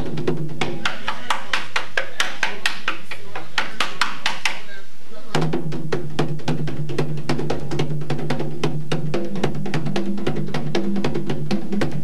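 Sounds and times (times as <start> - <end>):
conga drums played by hand: 0.0 - 4.6, 5.3 - 12.0.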